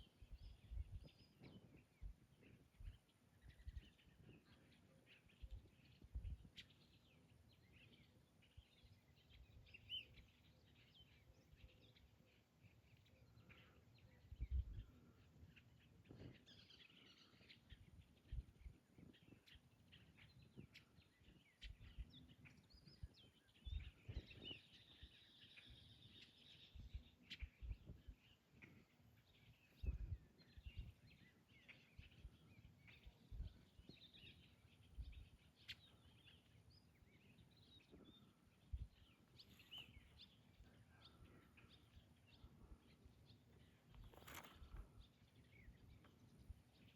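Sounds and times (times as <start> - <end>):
faint birds chirping: 0.0 - 46.9.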